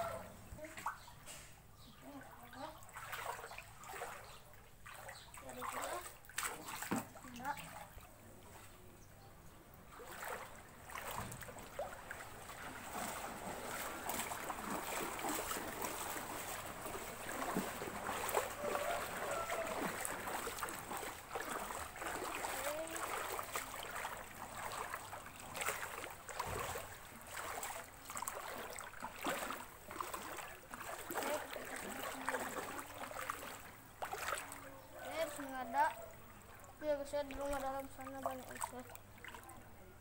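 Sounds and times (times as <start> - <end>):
water sloshing around wading legs: 0.0 - 40.0.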